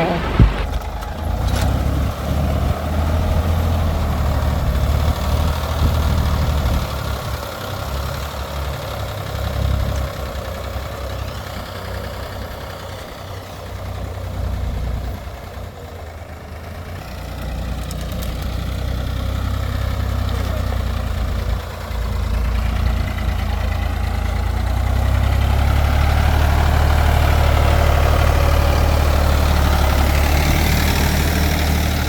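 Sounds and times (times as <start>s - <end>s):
tractor diesel engine rumbling: 0.0s - 32.0s.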